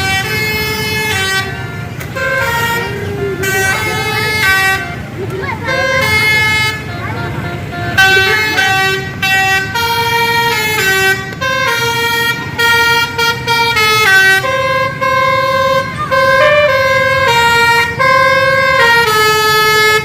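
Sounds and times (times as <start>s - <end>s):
multi-tone musical air horn: 0.0s - 20.0s.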